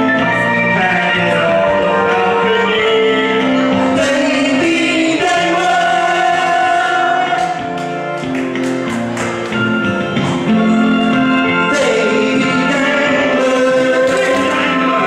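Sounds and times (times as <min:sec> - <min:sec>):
person singing into microphone: 0:00.0 - 0:07.8, 0:10.5 - 0:15.0
musical accompaniment: 0:00.0 - 0:15.0.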